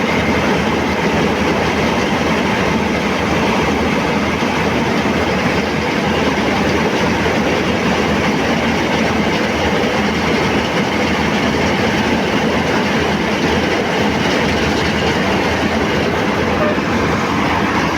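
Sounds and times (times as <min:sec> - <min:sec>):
combine harvester engine running: 0:00.0 - 0:17.9.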